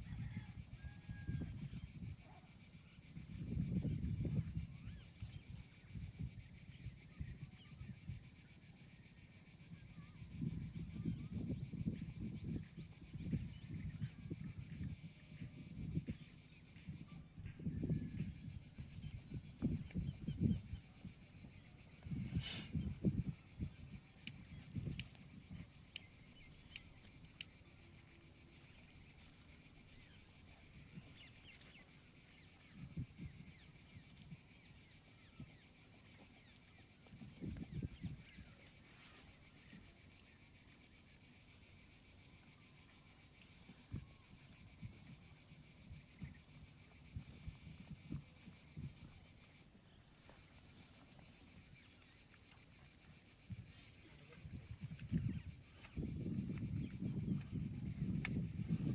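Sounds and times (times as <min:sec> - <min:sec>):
high-pitched insect chorus: 0:00.0 - 0:58.9.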